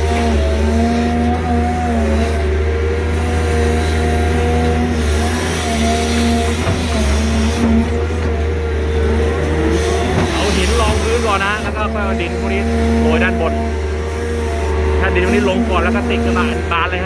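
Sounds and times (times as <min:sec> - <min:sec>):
excavator diesel engine at full throttle: 0:00.0 - 0:17.0.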